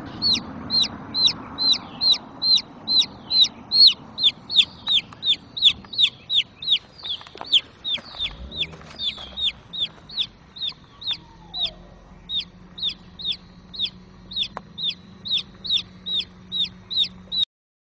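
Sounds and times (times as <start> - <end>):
baby chick peeping: 0.0 - 17.5.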